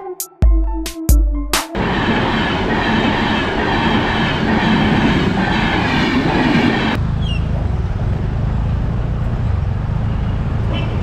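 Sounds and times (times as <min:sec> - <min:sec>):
low train rumble: 0:01.7 - 0:11.0
train wheels rushing on rails: 0:01.8 - 0:11.0.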